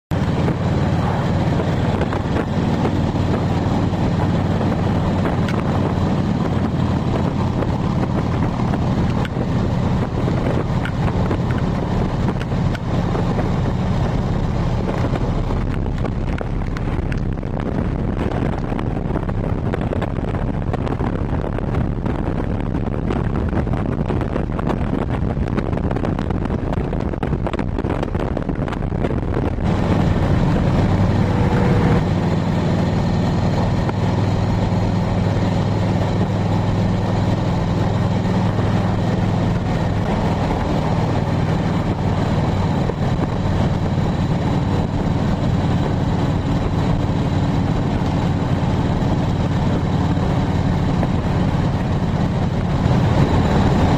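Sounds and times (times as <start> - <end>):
motorcycle engine running: 0.1 - 53.9
wind noise on microphone: 0.1 - 53.9.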